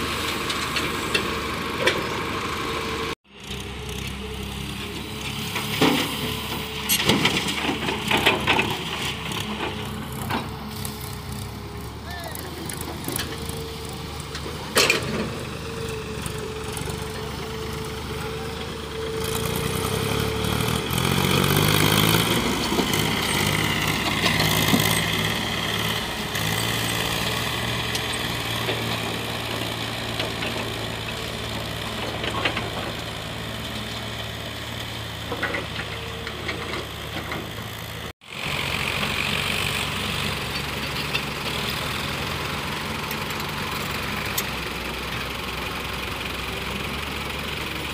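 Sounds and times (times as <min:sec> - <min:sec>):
diesel engines running: 0:00.0 - 0:47.9
engine revving: 0:00.0 - 0:47.9.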